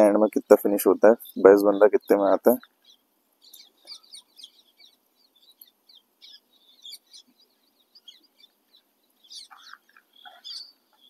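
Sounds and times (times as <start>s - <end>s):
bird warbling trill: 0.0s - 11.0s
small birds chirping: 0.0s - 11.0s.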